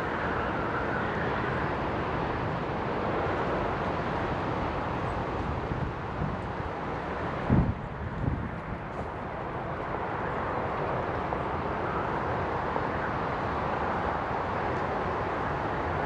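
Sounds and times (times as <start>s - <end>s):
outdoor background hiss and rumble: 0.0s - 16.0s.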